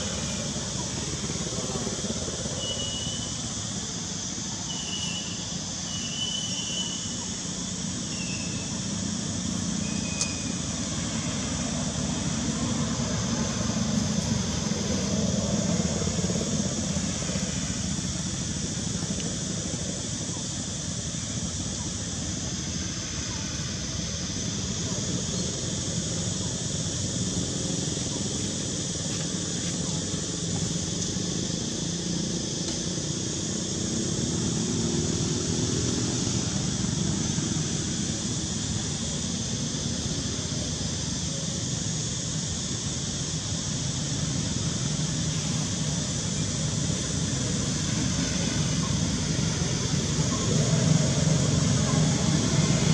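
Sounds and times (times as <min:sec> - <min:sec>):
hiss: 0:00.0 - 0:52.9.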